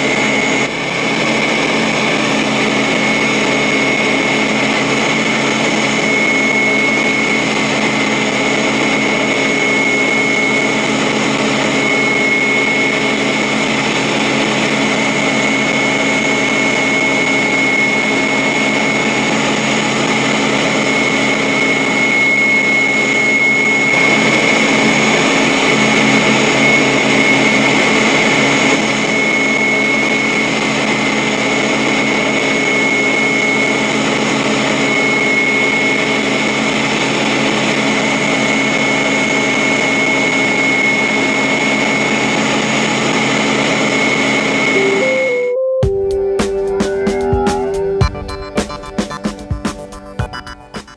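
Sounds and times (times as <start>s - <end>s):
mechanical drone with high whine: 0.0s - 50.9s.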